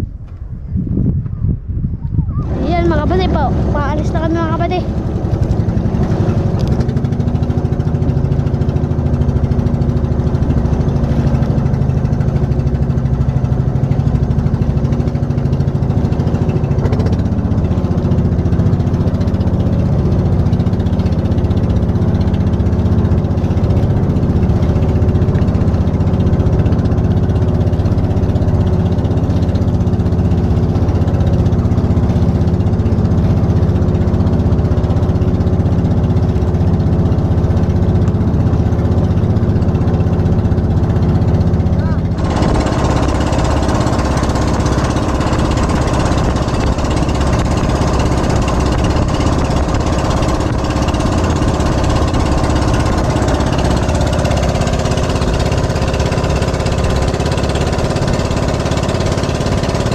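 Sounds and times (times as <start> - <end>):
boat engine running: 1.2 - 59.9.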